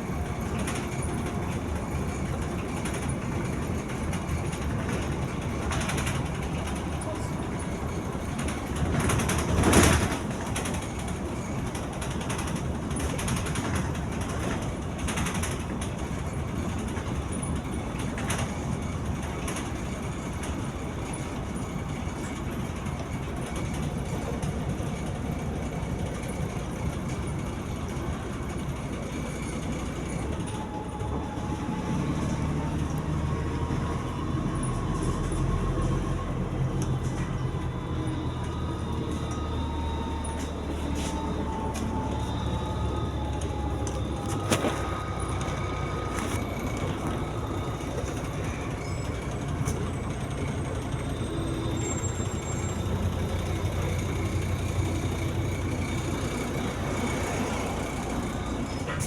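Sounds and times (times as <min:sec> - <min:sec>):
bus engine and road rumble: 0:00.0 - 0:59.0
bus rattles: 0:00.0 - 0:59.0.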